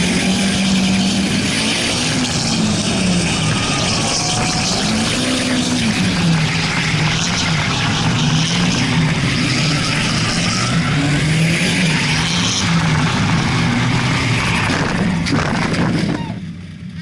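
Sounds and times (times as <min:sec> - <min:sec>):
car engine at high revs: 0:00.0 - 0:17.0
constant rushing noise: 0:00.0 - 0:17.0.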